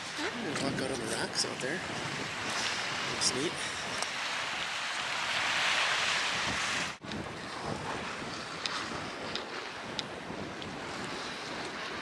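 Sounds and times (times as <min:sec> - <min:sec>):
sea waves washing onto shore: 0:00.0 - 0:12.0
wind buffeting microphone: 0:00.0 - 0:12.0.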